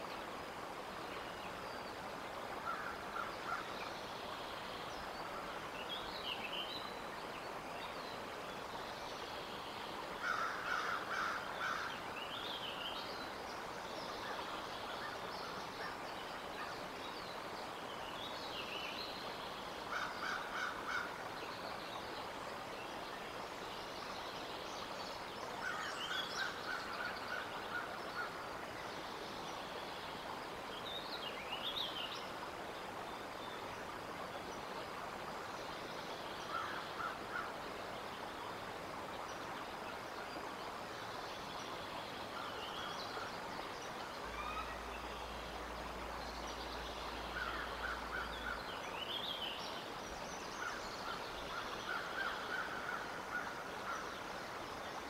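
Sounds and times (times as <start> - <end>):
steady outdoor hiss: 0.0 - 55.0
wild birds singing and calling: 1.0 - 55.0.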